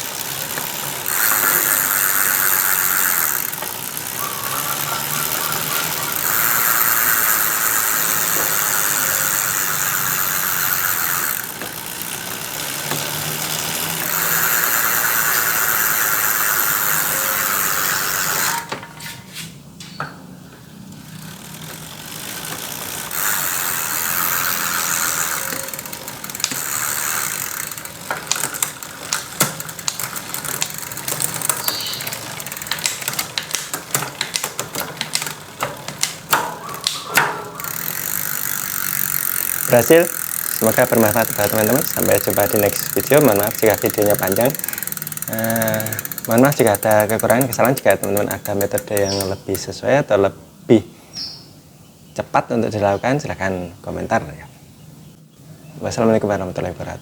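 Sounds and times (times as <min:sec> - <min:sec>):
bicycle chain running: 0:00.0 - 0:18.7, 0:20.7 - 0:49.8
freewheel pawls ticking: 0:00.0 - 0:18.7, 0:20.8 - 0:49.8.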